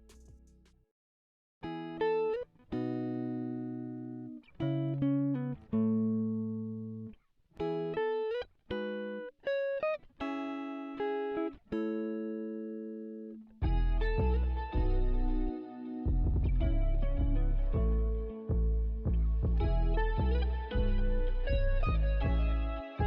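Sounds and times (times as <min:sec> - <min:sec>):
plucked chords music: 0:01.6 - 0:23.0.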